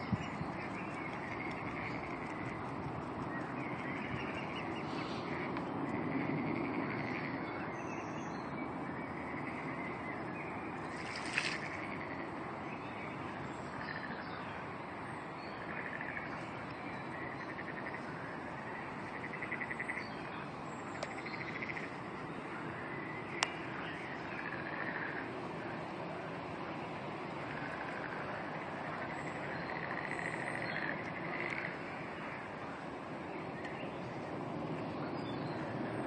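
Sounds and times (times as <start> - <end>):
outdoor background noise: 0.0 - 36.0.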